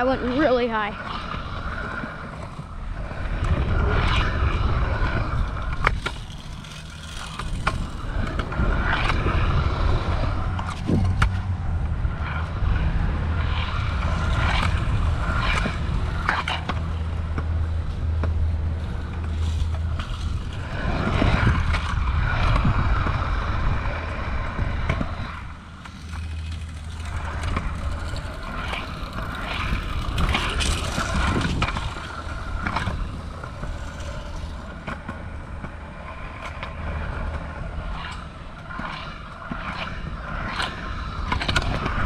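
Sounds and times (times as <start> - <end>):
scooter wheels rolling on concrete: 0.0 - 42.0.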